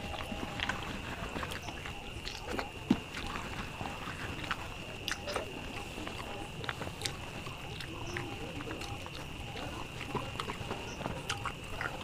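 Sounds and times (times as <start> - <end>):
close chewing with mouth clicks: 0.0 - 12.0.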